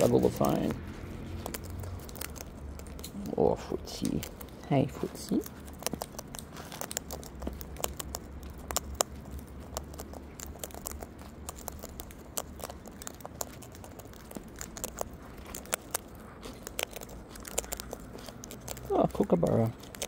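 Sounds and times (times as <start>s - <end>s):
bird cracking seeds: 0.0s - 20.0s.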